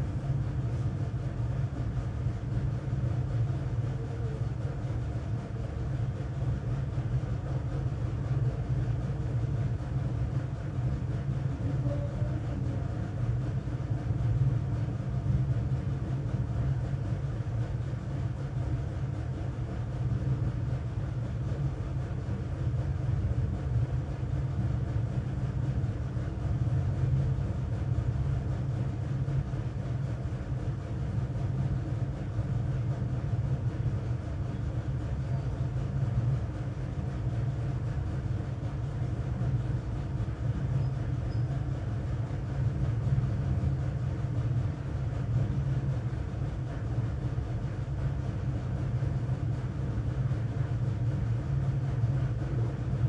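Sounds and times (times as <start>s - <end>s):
low rumble and hum: 0.0s - 53.0s.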